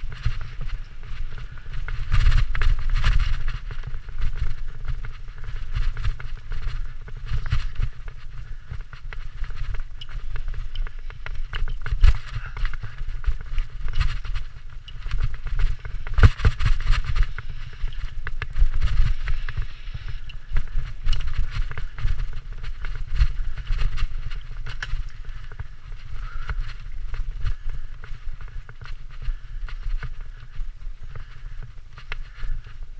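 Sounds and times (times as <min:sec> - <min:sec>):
bike rattling and knocking: 0:00.0 - 0:32.9
wind rumble on microphone: 0:00.0 - 0:32.9.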